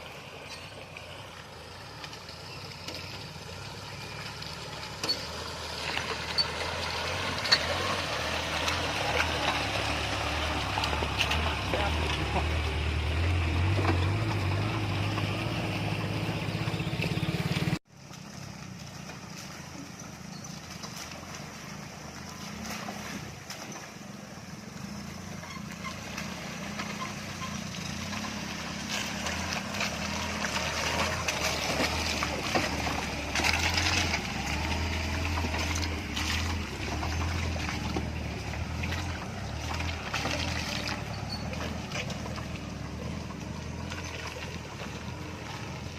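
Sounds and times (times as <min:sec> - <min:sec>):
car engine humming: 0:00.0 - 0:45.9
road noise: 0:00.0 - 0:45.9.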